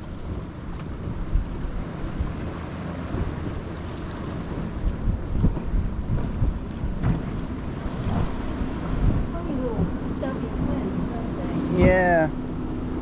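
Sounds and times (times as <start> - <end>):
water washing along boat: 0.0 - 13.0
wind buffeting microphone: 0.0 - 13.0.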